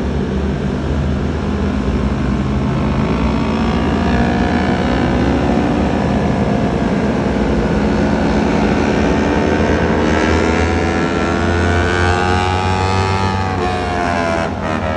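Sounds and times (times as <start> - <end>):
rushing wind: 0.0 - 14.9
motorcycle engine accelerating: 2.5 - 14.9.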